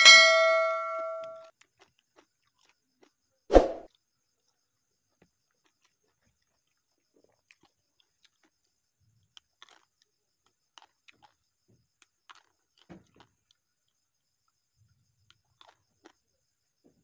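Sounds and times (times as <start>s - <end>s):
chewing with wet smacks: 1.4s - 16.7s.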